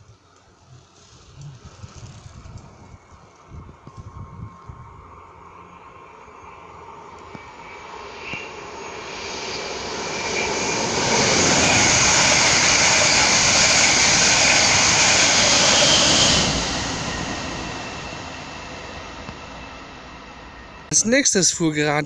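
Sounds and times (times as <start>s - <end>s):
passing train rumble: 1.4s - 22.0s.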